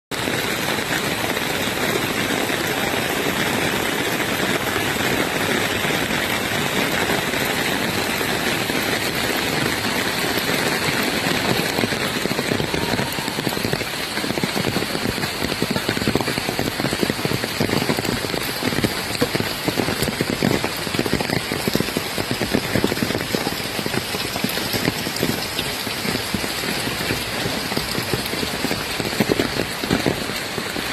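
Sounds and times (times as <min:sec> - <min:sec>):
raindrop hits: 0:00.1 - 0:30.9
steady rain falling: 0:00.1 - 0:30.9.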